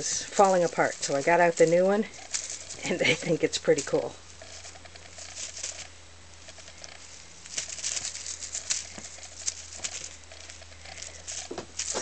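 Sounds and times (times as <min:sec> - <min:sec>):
paws scrabbling on carpet: 0:00.0 - 0:03.1, 0:03.8 - 0:12.0
feathers brushing: 0:00.0 - 0:12.0.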